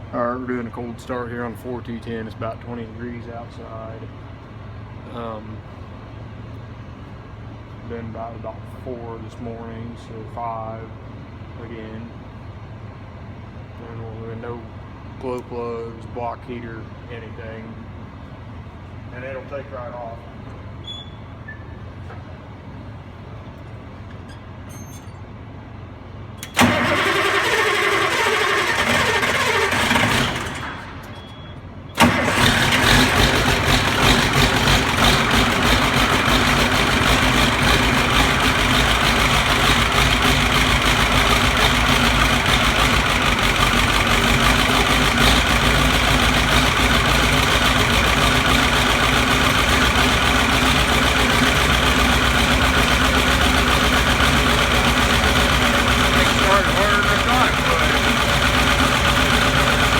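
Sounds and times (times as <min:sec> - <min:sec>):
diesel engine cranking: 0:00.0 - 0:59.9
tractor diesel engine running: 0:00.0 - 0:59.9.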